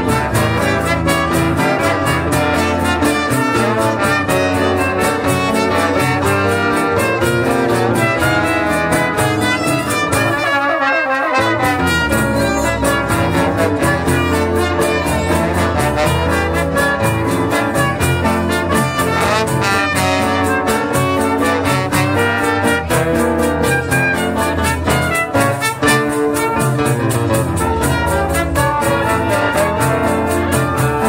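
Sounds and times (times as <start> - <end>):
acoustic guitars and horns ensemble: 0.0 - 31.0.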